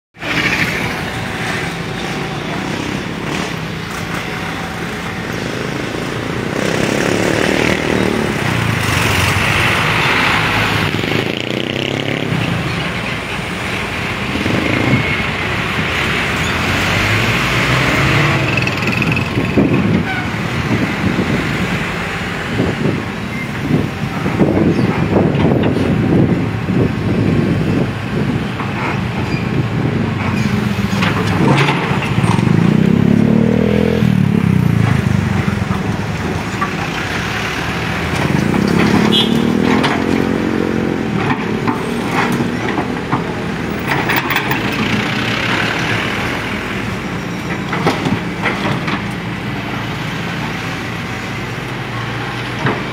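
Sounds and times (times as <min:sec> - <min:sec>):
excavator engine revving: 0:00.2 - 0:23.2, 0:23.8 - 0:52.9.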